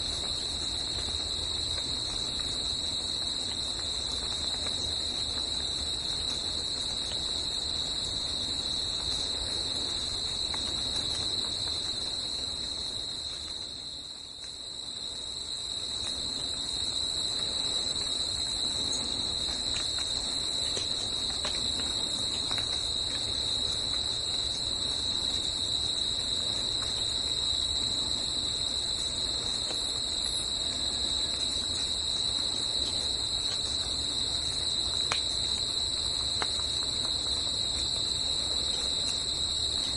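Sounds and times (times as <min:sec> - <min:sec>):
insect chorus chirring: 0:00.0 - 0:39.9.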